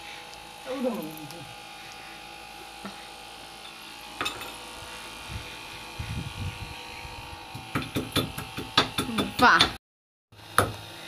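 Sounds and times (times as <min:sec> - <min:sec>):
steady electric hum: 0:00.0 - 0:09.6.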